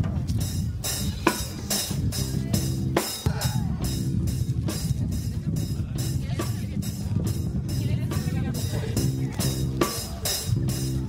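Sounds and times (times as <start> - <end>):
band music with drum beat: 0.0 - 11.0.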